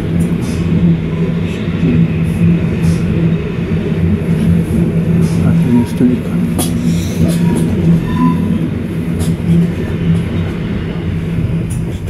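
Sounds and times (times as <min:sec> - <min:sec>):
train cabin low hum: 0:00.0 - 0:12.0.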